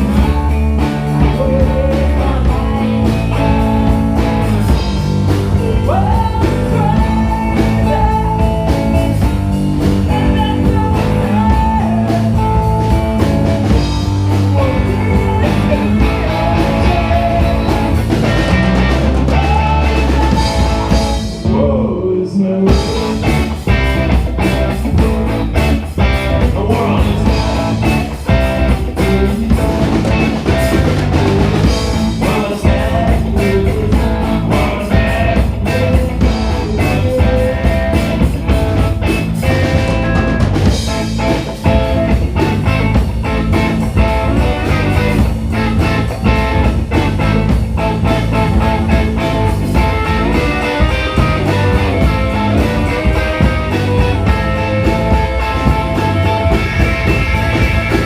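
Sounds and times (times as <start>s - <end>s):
drum kit beat: 0.0s - 21.8s, 22.6s - 58.0s
bass: 0.0s - 58.0s
electric guitar: 0.0s - 58.0s.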